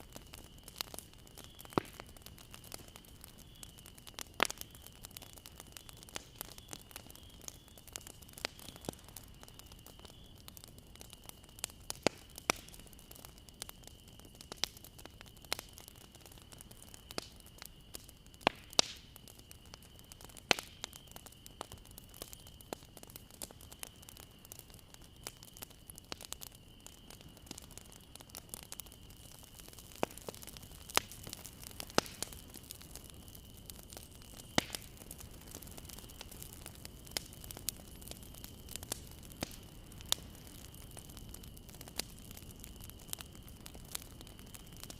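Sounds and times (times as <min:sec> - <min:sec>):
bonfire crackling: 0:00.0 - 0:44.9.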